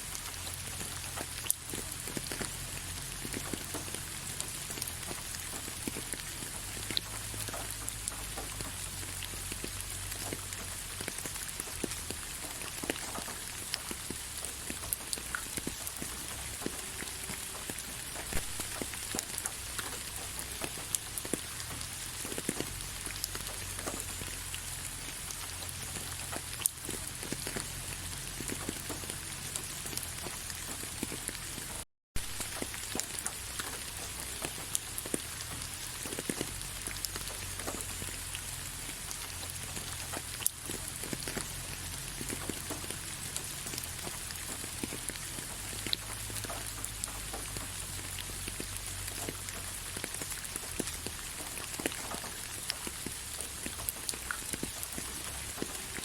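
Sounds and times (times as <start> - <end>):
raindrops ticking: 0.0 - 56.0
steady rain: 0.0 - 56.0.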